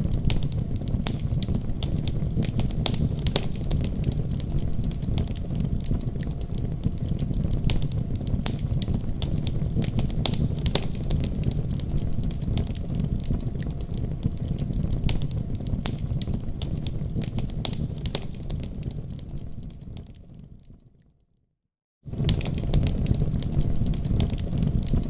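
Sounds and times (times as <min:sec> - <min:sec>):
wood fire crackling: 0:00.0 - 0:20.9, 0:22.1 - 0:25.0.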